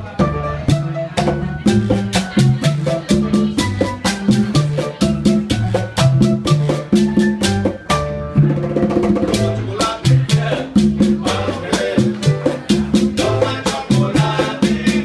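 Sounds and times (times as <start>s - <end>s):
conga drums: 0.0s - 15.0s
gourd hand percussion: 0.0s - 15.0s
piano chords: 0.0s - 15.0s
upright bass lines: 0.0s - 15.0s.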